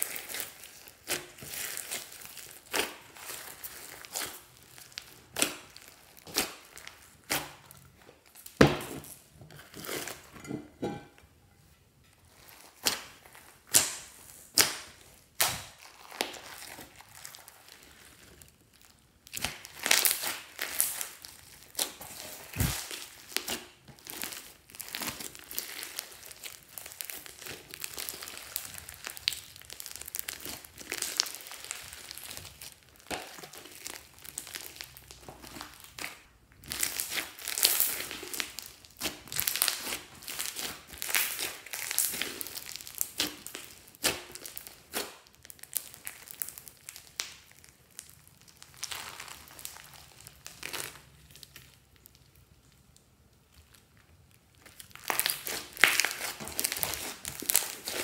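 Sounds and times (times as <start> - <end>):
slime squishing and crackling: 0.0 - 10.3, 12.1 - 58.0.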